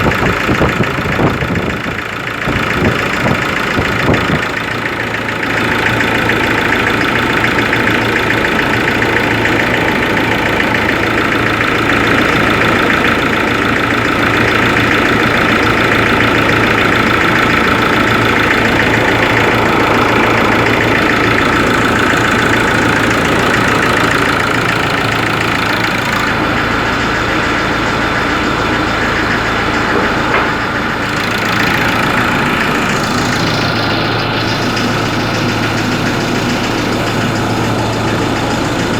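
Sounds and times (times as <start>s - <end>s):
diesel engine idling: 0.0s - 38.9s
mechanical engine noise: 0.0s - 38.9s.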